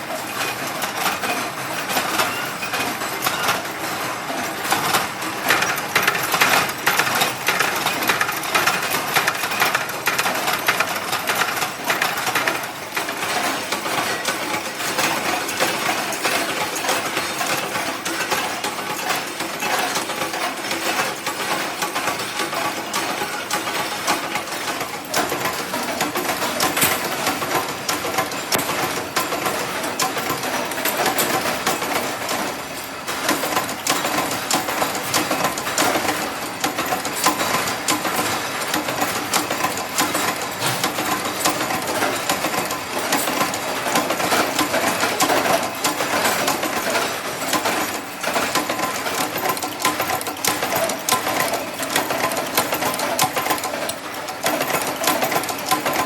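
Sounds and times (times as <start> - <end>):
machinery clattering: 0.0 - 56.0.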